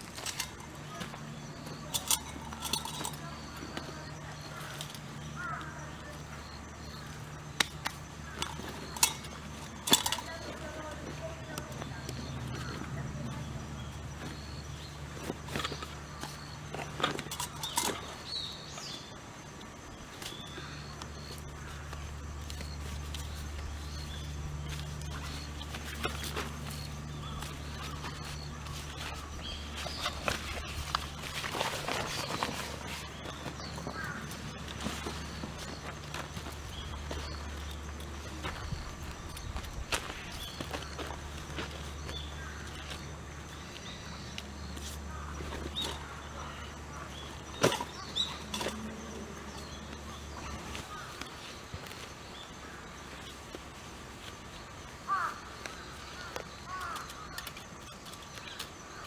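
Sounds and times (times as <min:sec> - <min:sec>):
steady low hum: 0:00.0 - 0:59.0
twigs and leaves crunching: 0:00.0 - 0:59.0.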